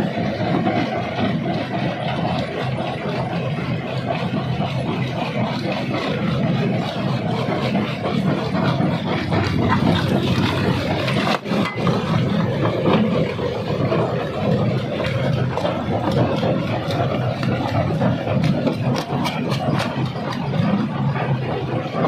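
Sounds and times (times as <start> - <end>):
rock crusher machine drone: 0.0 - 22.0.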